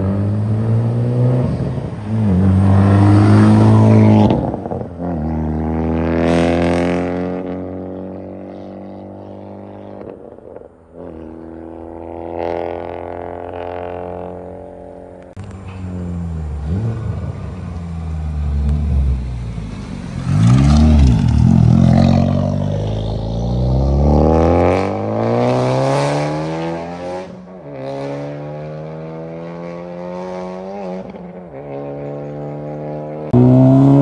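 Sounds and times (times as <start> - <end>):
car engine revving: 0.0 - 8.1, 11.7 - 34.0.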